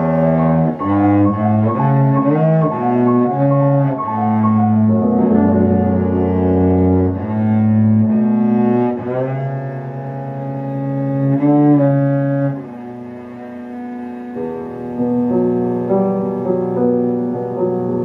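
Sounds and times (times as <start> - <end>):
cello playing slow melody: 0.0 - 18.0.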